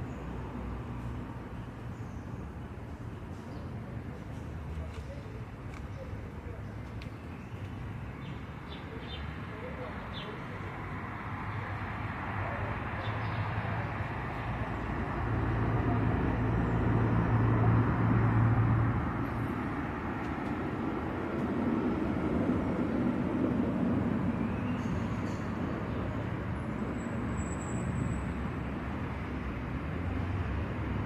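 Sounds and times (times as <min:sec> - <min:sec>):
street traffic: 0:00.0 - 0:31.0
vehicle engine hum passing: 0:00.0 - 0:31.0.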